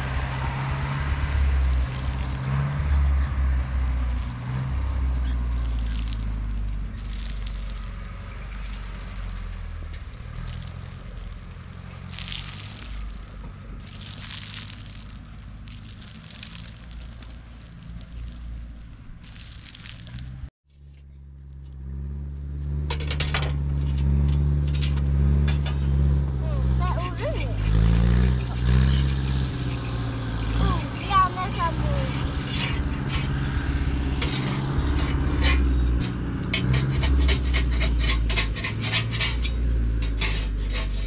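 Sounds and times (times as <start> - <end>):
engine running: 0.0 - 19.3, 19.9 - 41.0.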